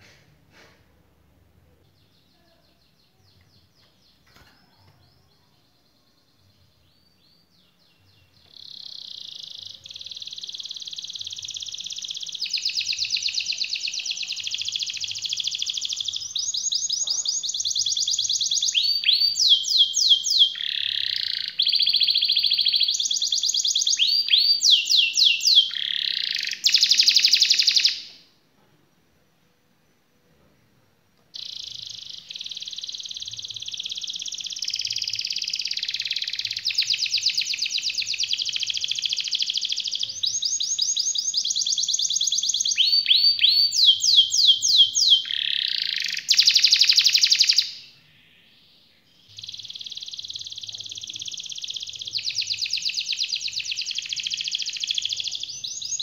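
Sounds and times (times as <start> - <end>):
canary singing trills: 1.8 - 28.2, 31.4 - 56.0.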